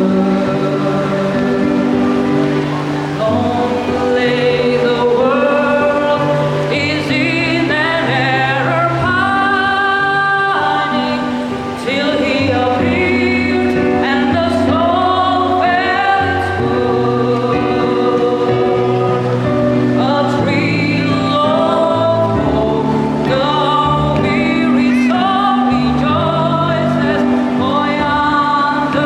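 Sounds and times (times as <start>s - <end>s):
children's choir singing a carol: 0.0s - 29.0s.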